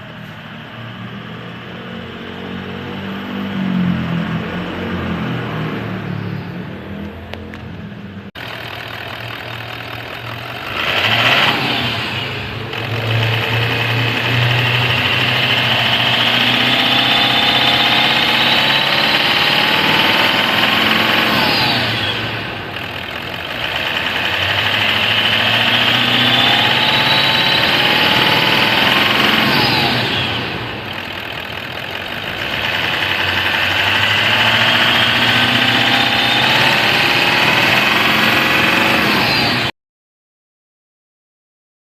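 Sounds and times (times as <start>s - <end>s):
diesel engine revving: 0.0s - 39.8s.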